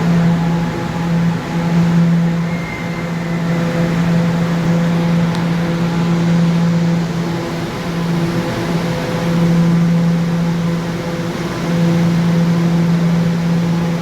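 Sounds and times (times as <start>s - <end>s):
subway train electric hum: 0.0s - 14.0s.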